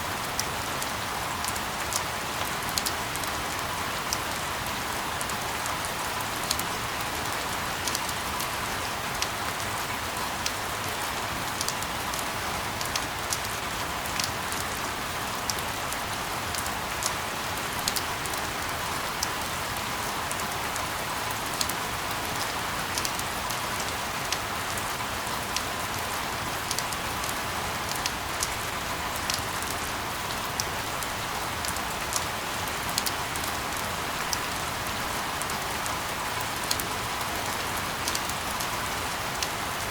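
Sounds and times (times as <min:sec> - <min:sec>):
steady rain: 0:00.0 - 0:39.9
raindrops ticking on a surface: 0:00.1 - 0:39.9.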